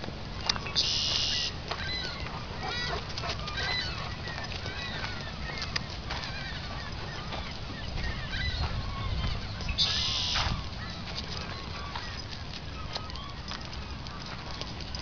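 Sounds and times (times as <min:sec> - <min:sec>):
low background noise: 0:00.0 - 0:15.0
flock of birds calling: 0:00.3 - 0:15.0.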